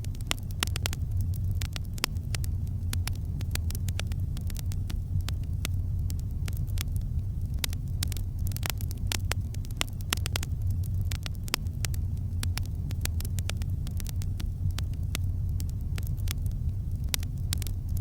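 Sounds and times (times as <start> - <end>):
campfire pops and snaps: 0.0 - 18.0
low fire rumble: 0.0 - 18.0.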